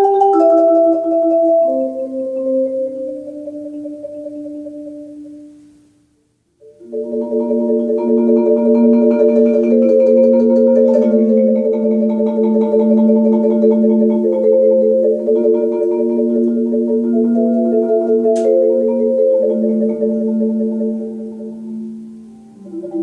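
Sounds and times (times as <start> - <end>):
marimba rolled chords: 0.0 - 5.6, 6.6 - 23.0.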